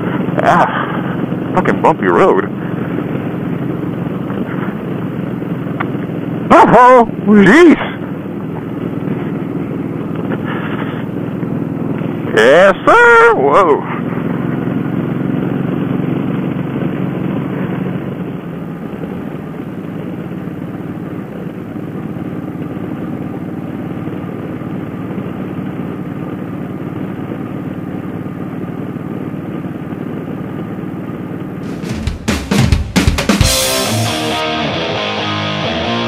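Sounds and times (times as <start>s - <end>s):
motorcycle engine cruising: 0.0s - 36.0s
road noise: 0.0s - 36.0s.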